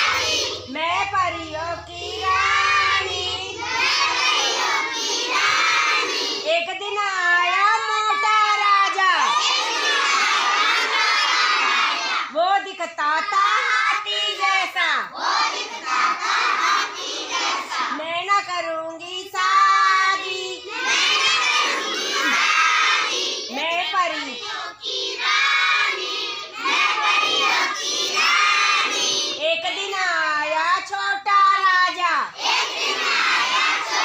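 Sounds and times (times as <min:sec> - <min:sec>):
children chanting and singing: 0:00.0 - 0:34.0.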